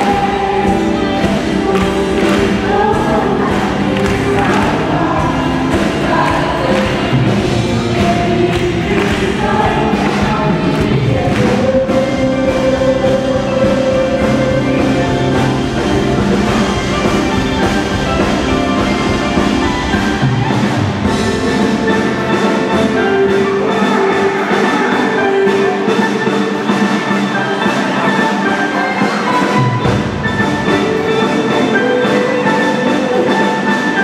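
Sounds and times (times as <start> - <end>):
group singing worship music: 0.0 - 29.6.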